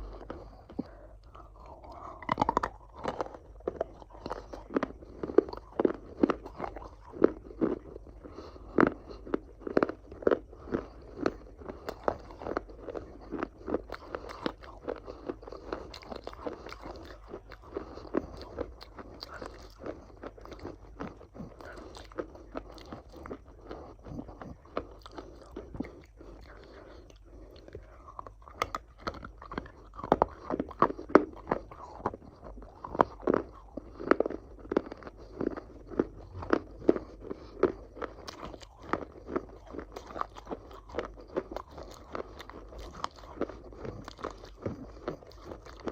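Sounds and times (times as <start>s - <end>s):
chewing crunchy food: 0.0s - 45.9s.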